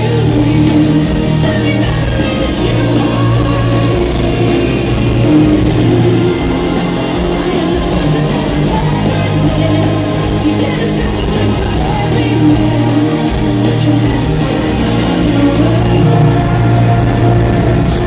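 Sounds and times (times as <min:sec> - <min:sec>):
live metal band playing: 0:00.0 - 0:18.0
woman singing lead vocal: 0:00.0 - 0:18.0.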